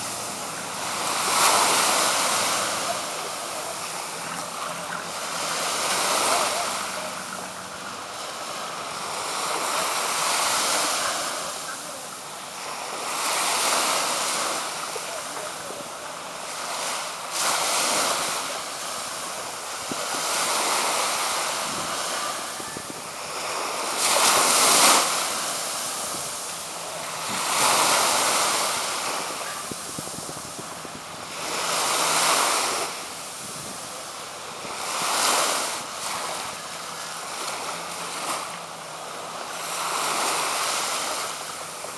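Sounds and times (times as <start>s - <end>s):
sea waves washing on beach: 0.0s - 41.9s.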